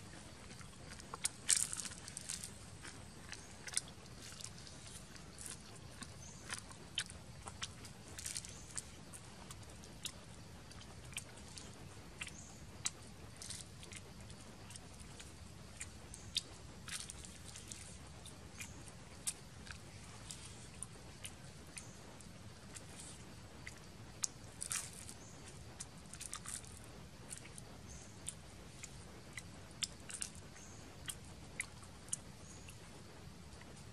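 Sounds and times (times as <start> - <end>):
biting and chewing: 0.0 - 33.9.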